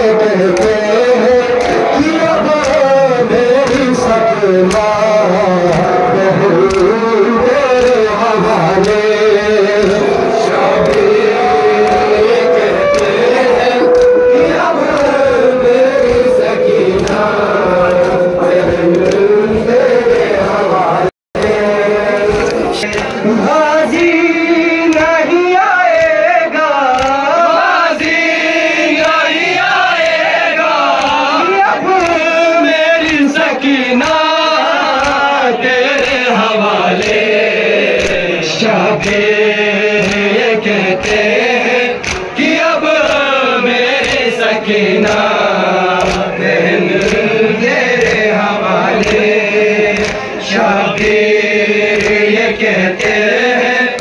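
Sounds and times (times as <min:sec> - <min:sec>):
men chanting a lament: 0:00.0 - 0:54.0
sharp rhythmic strikes: 0:00.0 - 0:54.0.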